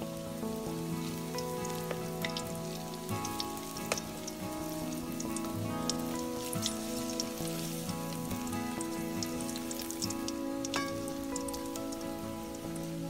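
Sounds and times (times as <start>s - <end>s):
hot oil crackling and spattering: 0.0s - 13.0s
soft instrumental music: 0.0s - 13.0s.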